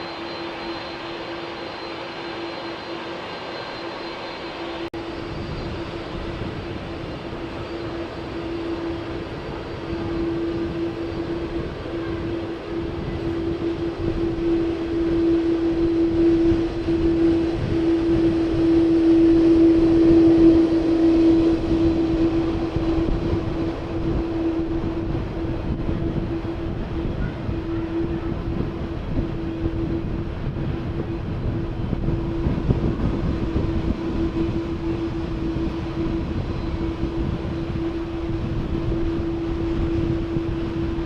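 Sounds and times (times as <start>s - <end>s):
jet engines rushing and droning: 0.0s - 41.0s.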